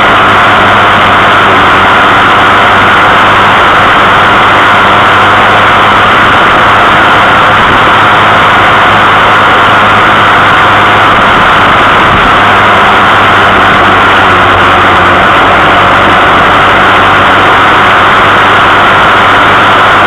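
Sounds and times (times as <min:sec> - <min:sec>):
road and air noise: 0:00.0 - 0:20.0
vehicle engine hum: 0:00.0 - 0:20.0.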